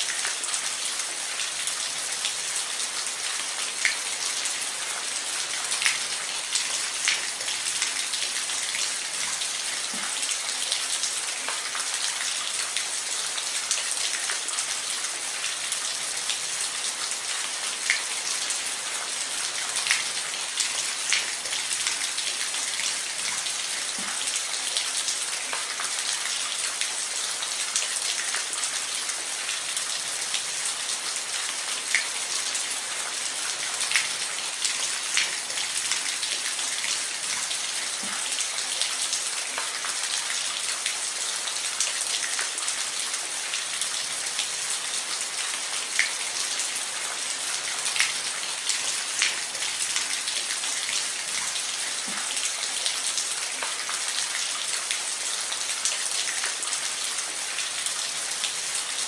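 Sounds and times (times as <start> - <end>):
rain on a roof: 0.0 - 59.0.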